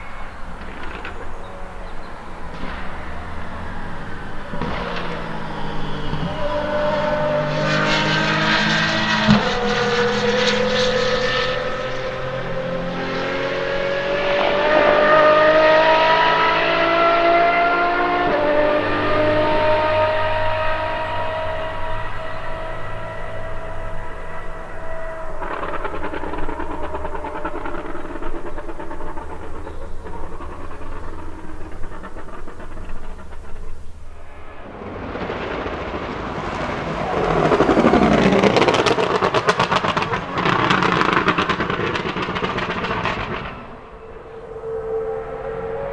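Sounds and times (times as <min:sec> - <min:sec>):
engine accelerating: 0:00.0 - 0:45.9.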